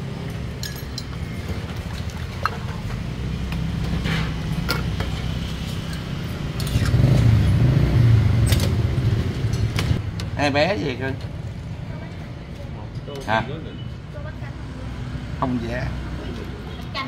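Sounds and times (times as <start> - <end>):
motor traffic rumble: 0.0 - 17.0.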